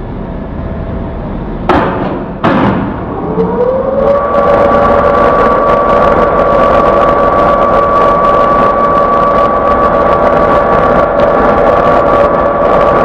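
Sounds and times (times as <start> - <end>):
crane hoist humming: 0.0 - 13.0.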